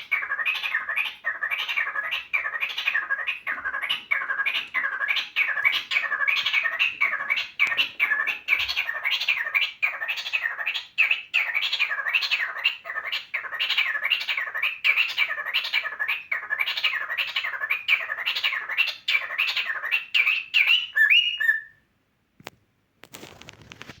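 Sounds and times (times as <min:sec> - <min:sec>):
cockatiel chirping calls: 0:00.0 - 0:21.8.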